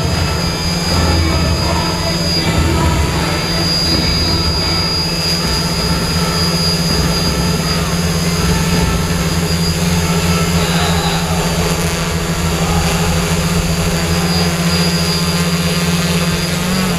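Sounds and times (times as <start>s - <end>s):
loud machine hum: 0.0s - 16.9s.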